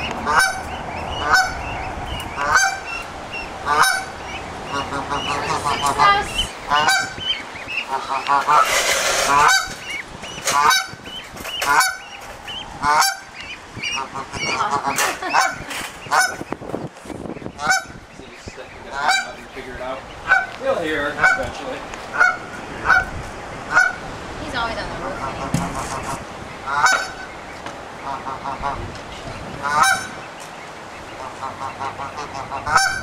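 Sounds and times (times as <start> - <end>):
goose honking: 0.0 - 16.6, 17.2 - 33.0.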